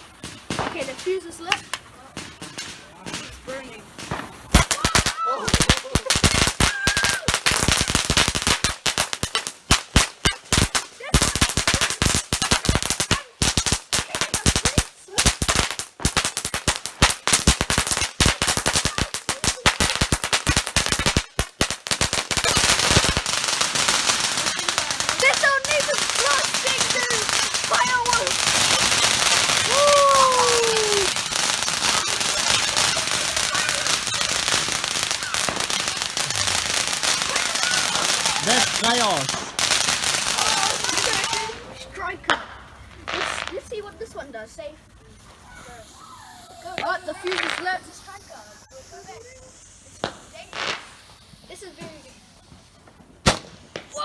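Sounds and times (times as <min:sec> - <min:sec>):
firework bangs and crackles: 0:00.0 - 0:54.0.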